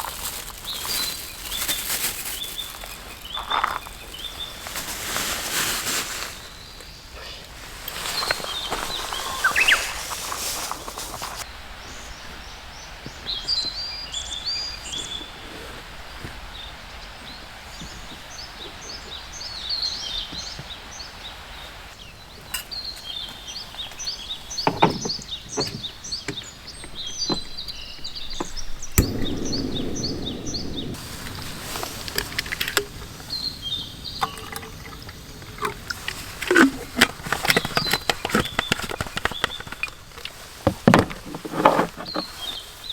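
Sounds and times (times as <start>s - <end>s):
small birds chirping: 0.0s - 5.3s, 6.3s - 40.9s.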